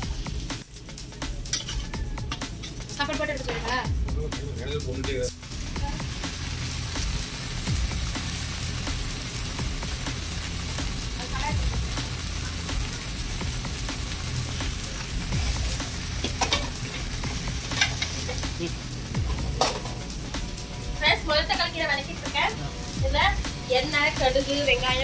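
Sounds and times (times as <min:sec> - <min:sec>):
greens sizzling in a pan: 0:00.0 - 0:03.9, 0:05.3 - 0:25.0.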